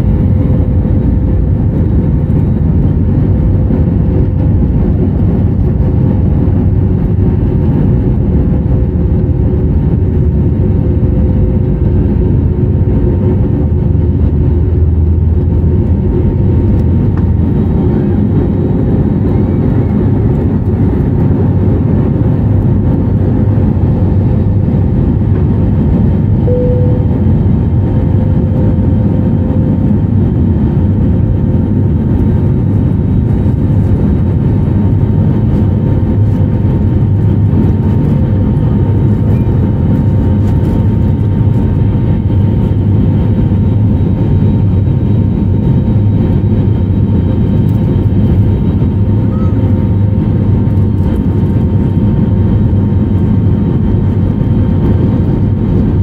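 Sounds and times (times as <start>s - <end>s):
jet engines rumbling: 0.0s - 56.0s
steady hum tone: 0.0s - 56.0s.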